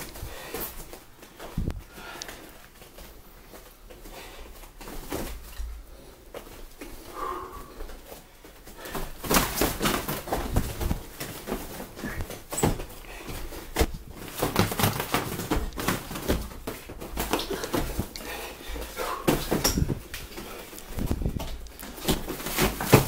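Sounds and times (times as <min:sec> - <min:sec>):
feet moving on floor: 0:00.0 - 0:23.0.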